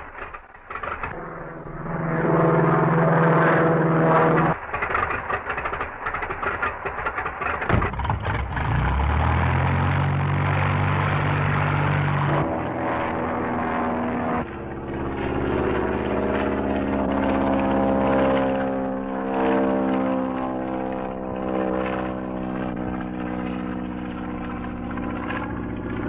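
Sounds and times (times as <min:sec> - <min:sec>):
aircraft piston engine: 0:00.0 - 0:26.0.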